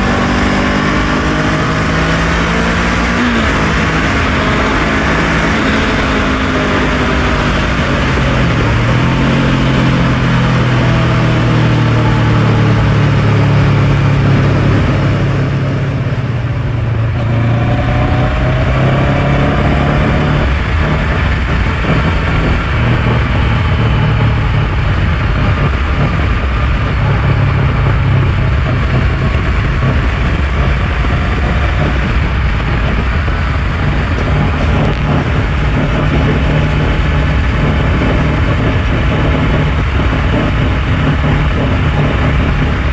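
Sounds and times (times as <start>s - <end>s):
motorcycle engine running: 0.0s - 42.9s
wind noise: 0.0s - 42.9s.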